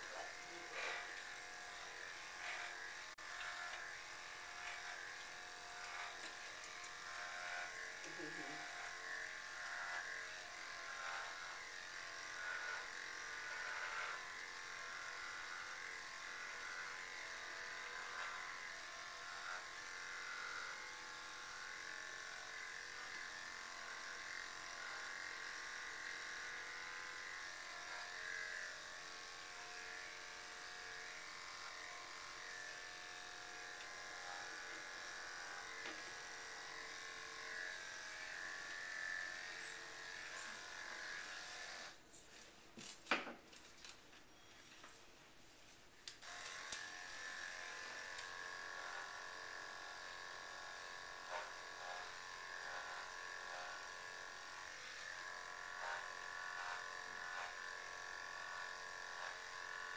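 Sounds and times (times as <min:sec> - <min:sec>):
electric dog clippers buzzing: 0:00.0 - 0:42.0, 0:46.0 - 0:59.9.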